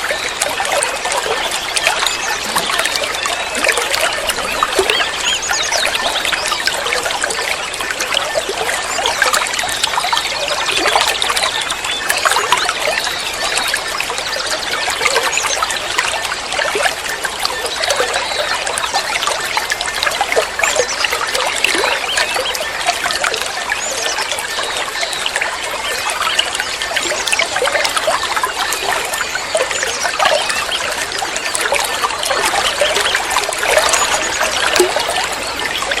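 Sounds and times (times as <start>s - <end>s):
water trickling: 0.0s - 36.0s.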